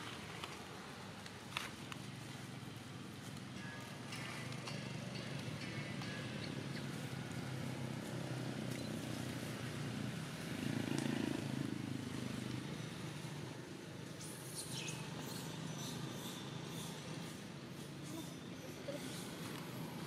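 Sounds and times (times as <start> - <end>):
low outdoor background hum: 0.0 - 20.0.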